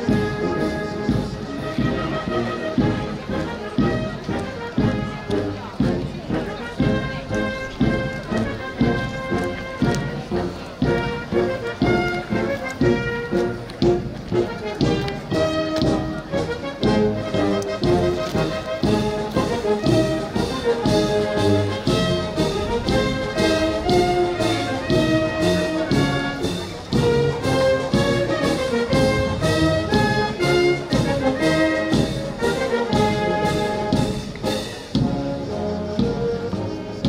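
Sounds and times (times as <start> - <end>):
brass band playing a march: 0.0 - 37.0.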